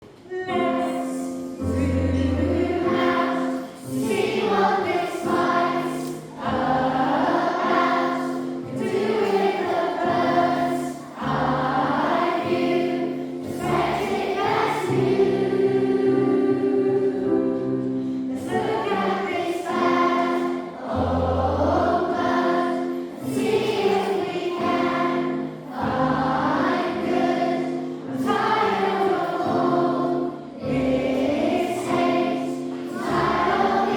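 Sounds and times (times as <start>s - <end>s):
children's choir singing: 0.2s - 33.9s.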